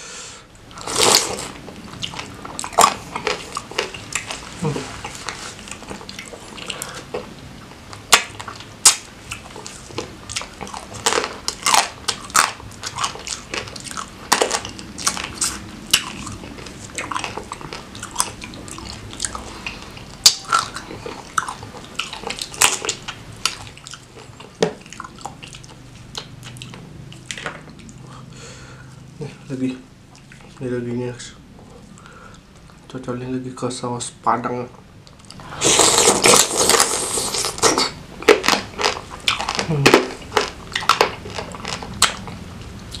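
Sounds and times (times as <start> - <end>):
wet chewing and mouth sounds: 0.7 - 28.3, 35.0 - 43.0.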